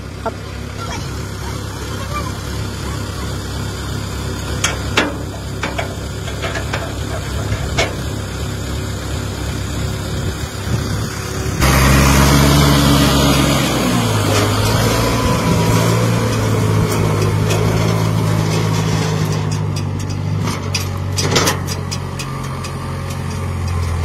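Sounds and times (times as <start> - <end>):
tractor engine: 0.0 - 24.0.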